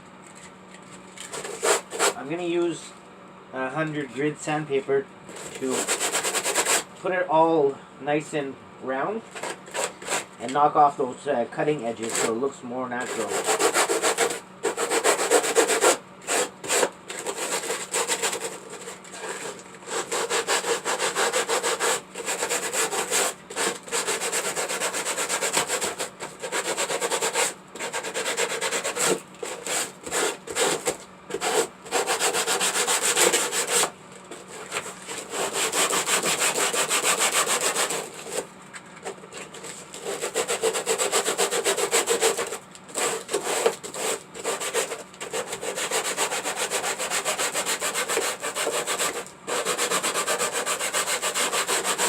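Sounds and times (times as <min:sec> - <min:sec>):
hand sanding with sandpaper: 0:01.2 - 0:02.4, 0:05.3 - 0:06.9, 0:09.3 - 0:10.3, 0:12.0 - 0:12.4, 0:13.0 - 0:38.5, 0:39.1 - 0:52.0.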